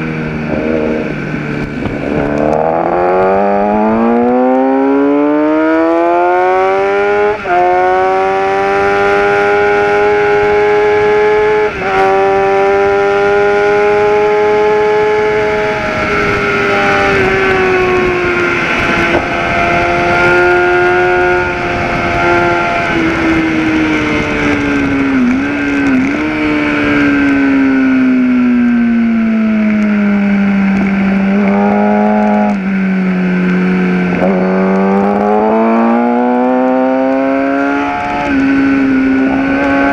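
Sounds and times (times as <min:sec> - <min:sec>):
motorcycle engine revving and shifting: 0:00.0 - 0:39.9
wind rushing over microphone: 0:00.0 - 0:39.9.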